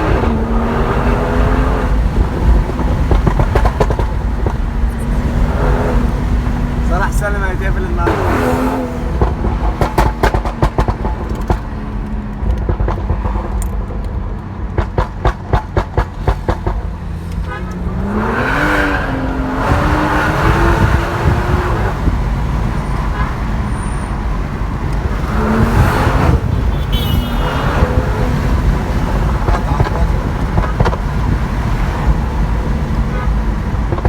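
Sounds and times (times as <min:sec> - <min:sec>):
car engine accelerating: 0:00.0 - 0:34.0
exhaust crackling and popping: 0:00.0 - 0:34.0.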